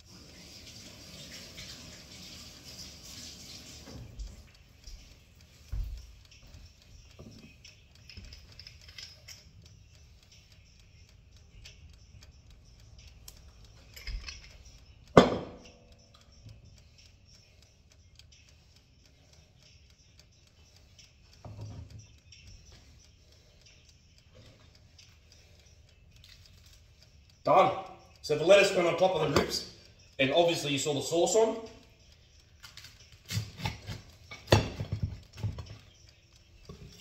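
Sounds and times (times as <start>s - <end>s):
taps and clicks of food preparation: 3.8s - 9.4s, 10.0s - 26.8s, 27.7s - 29.8s, 31.6s - 37.0s.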